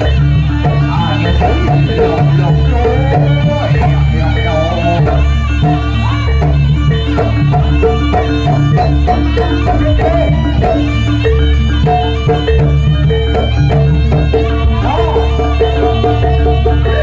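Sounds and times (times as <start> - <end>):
drums and tuned percussion: 0.0 - 17.0
heavy bass: 0.0 - 17.0.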